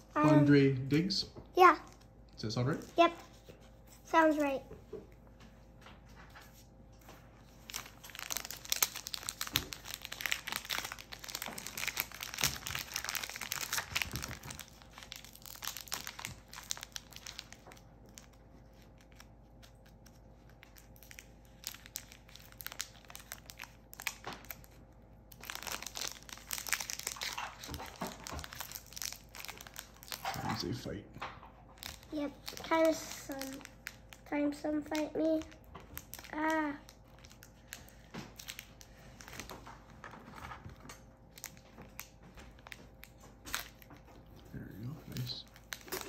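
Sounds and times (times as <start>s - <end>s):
foil wrapper crinkling and tearing: 7.4s - 31.0s, 31.7s - 46.0s.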